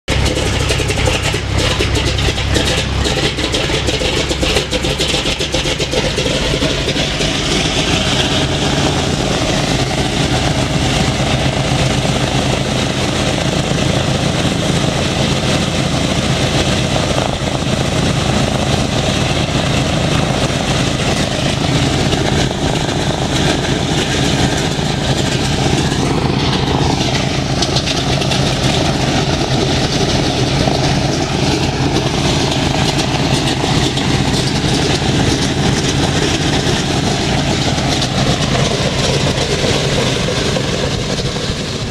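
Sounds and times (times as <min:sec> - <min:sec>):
aircraft engine starting: 0:00.0 - 0:41.9
radial aircraft engines idling: 0:00.0 - 0:41.9.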